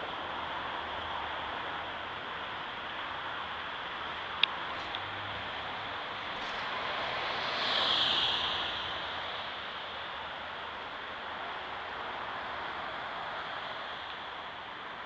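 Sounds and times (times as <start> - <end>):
bus driving by: 0.0 - 15.0
passing cars: 0.0 - 15.0.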